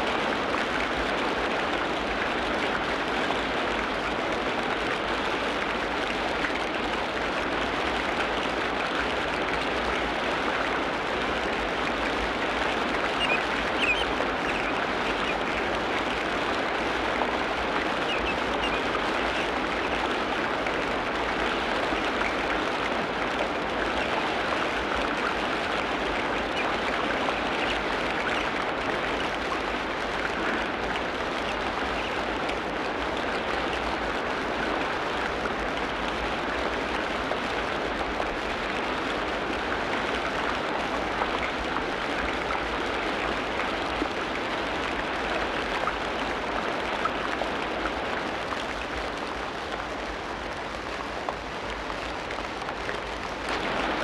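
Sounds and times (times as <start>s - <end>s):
dense patter hiss: 0.0s - 54.0s.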